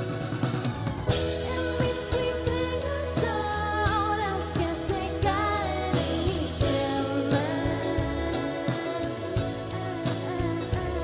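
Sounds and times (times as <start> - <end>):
drum kit: 0.0 - 11.0
electric bass and guitar: 0.0 - 11.0
person singing: 1.2 - 11.0.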